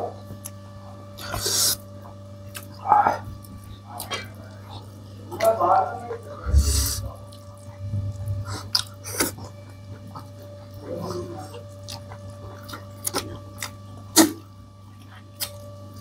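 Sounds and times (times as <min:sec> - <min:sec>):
steady low hum: 0:00.0 - 0:16.0
chewing: 0:00.4 - 0:05.6, 0:07.2 - 0:16.0.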